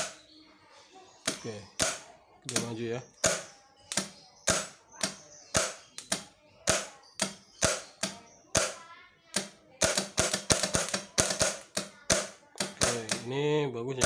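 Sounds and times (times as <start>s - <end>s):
cable sparking snaps: 1.3s - 8.8s, 9.4s - 13.2s.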